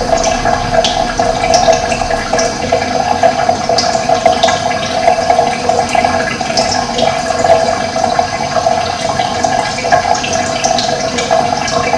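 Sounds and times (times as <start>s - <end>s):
running water gurgling: 0.0s - 11.9s.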